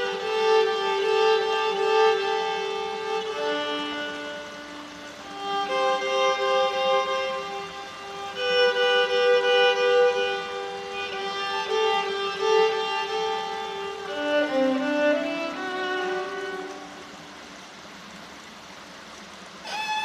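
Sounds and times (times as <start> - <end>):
solo violin slow melody: 0.0 - 20.0.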